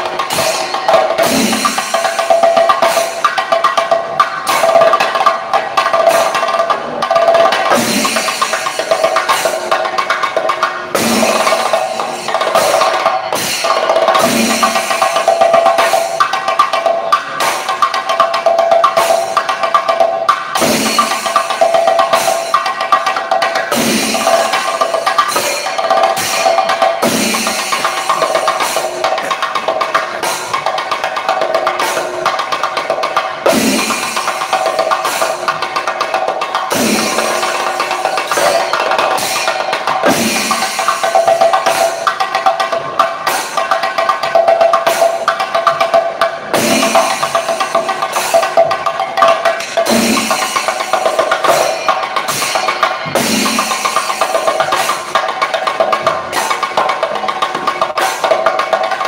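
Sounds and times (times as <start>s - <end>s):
drums beaten with sticks: 0.0s - 59.0s.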